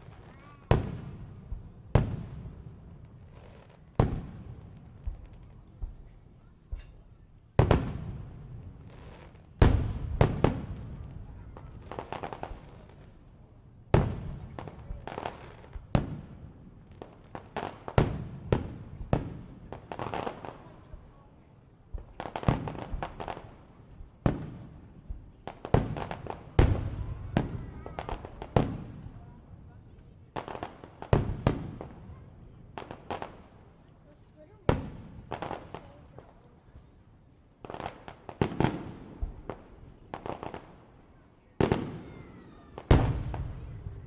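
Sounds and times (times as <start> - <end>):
fireworks bursting with echo: 0.0 - 44.0.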